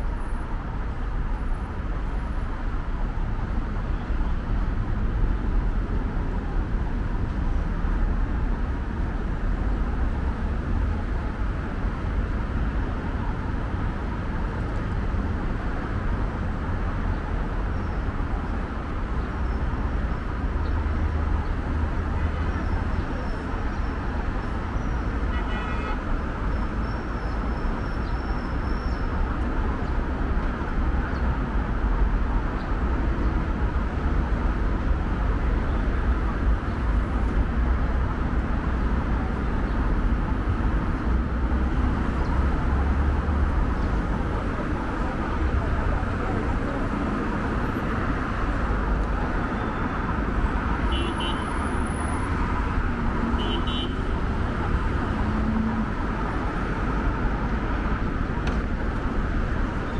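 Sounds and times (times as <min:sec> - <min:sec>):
traffic rumble: 0:00.0 - 0:59.9.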